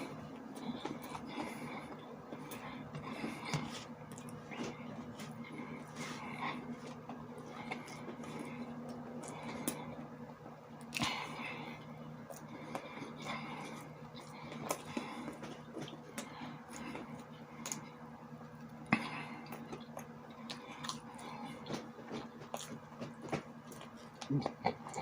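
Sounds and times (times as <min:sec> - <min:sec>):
chewing and biting food: 0:00.0 - 0:10.0, 0:10.8 - 0:18.0, 0:18.9 - 0:25.0
steady low hum: 0:00.0 - 0:25.0.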